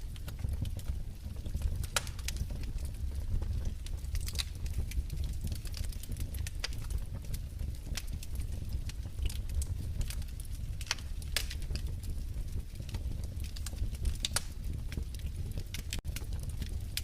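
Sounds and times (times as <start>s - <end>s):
low rumble of burning logs: 0.0s - 17.0s
wood fire crackling and popping: 0.0s - 17.0s.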